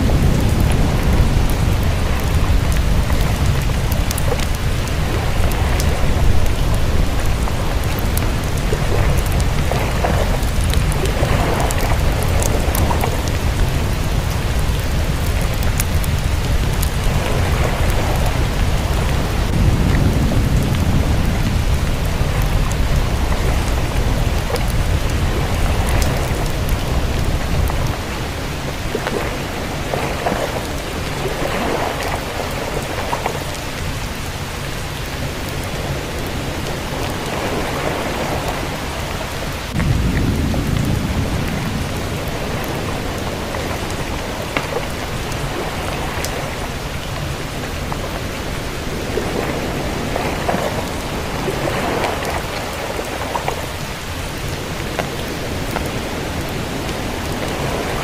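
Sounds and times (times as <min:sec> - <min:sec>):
raindrop ticks: 0:00.0 - 0:48.4, 0:49.4 - 0:58.0
rain hissing: 0:00.0 - 0:58.0
thunder rumble: 0:00.0 - 0:58.0.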